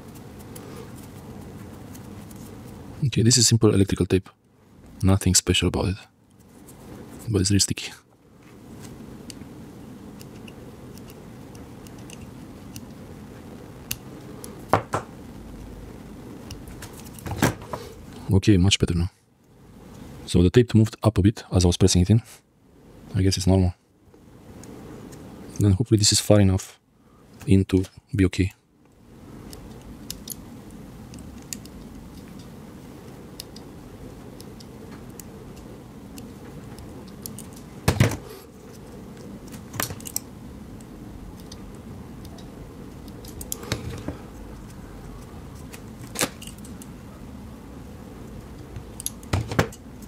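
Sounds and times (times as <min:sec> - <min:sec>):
low background noise: 0:00.0 - 0:50.0
steady low hum: 0:00.0 - 0:50.0.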